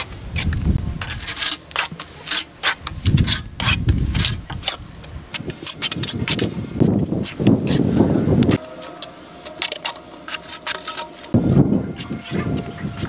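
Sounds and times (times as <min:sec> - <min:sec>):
float rubbing mortar on brick: 0:00.4 - 0:11.4.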